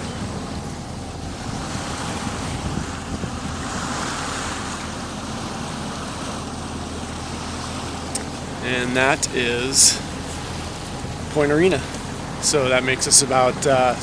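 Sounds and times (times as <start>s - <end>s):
boat engine humming: 0.0s - 14.0s
sea wash: 0.0s - 14.0s
wind on microphone: 0.0s - 14.0s.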